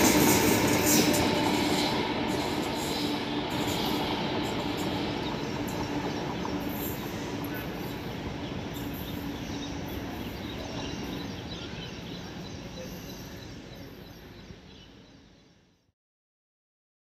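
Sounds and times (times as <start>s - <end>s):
electric train rumbling on track: 0.0s - 15.4s.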